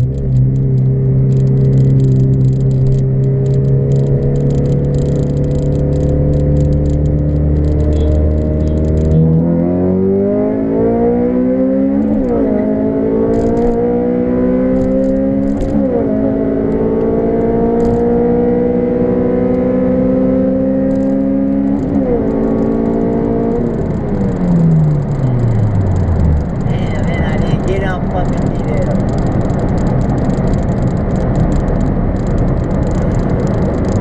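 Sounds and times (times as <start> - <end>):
car engine revving through gears: 0.0 - 34.0.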